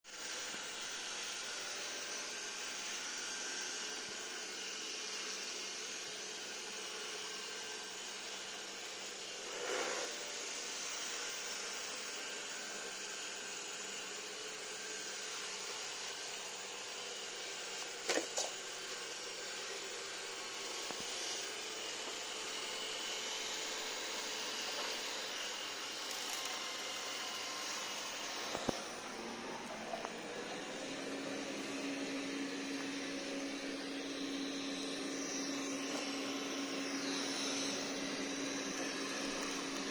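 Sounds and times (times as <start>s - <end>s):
robot vacuum whirring: 0.1s - 39.9s.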